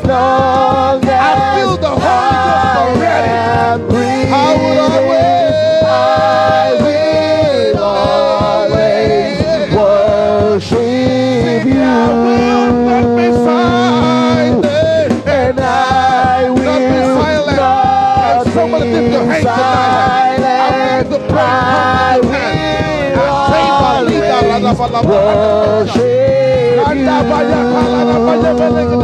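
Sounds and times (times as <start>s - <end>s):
held instrumental chords: 0.0s - 29.0s
person singing worship song: 0.0s - 29.0s.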